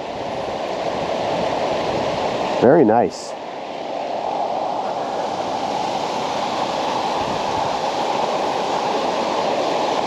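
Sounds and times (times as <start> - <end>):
water rushing through rocks: 0.0 - 10.0.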